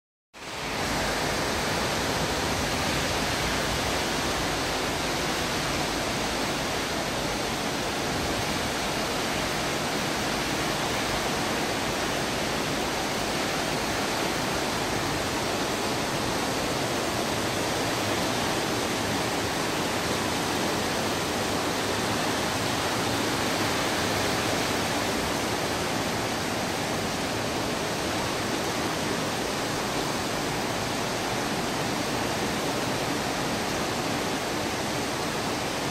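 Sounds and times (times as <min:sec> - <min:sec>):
heavy rain: 0:00.4 - 0:35.9
strong winds: 0:00.4 - 0:35.9.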